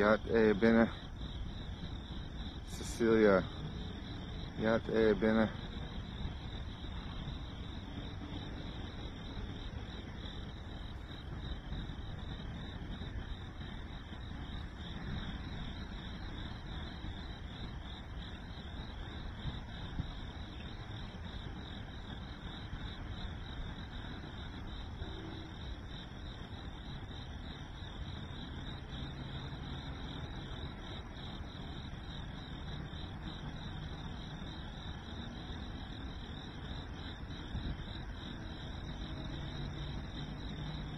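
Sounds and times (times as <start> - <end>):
crickets chirping: 0.0 - 40.9
low steady rumble: 0.0 - 40.9.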